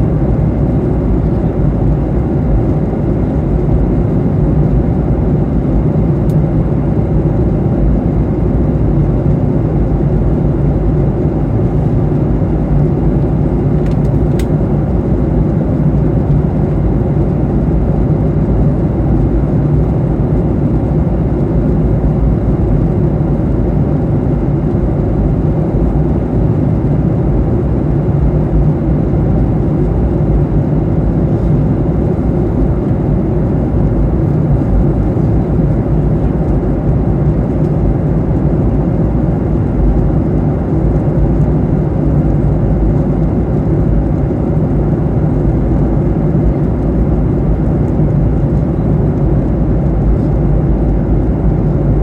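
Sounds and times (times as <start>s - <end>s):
airplane cabin noise: 0.0s - 52.0s.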